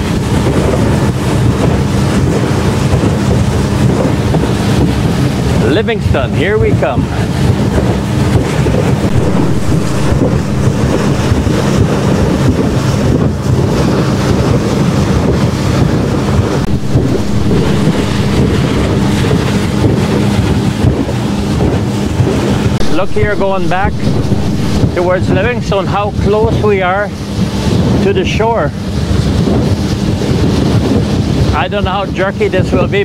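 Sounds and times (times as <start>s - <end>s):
outboard motor running: 0.0s - 32.3s
water rushing past hull: 0.0s - 33.0s
wind buffeting microphone: 0.0s - 33.0s.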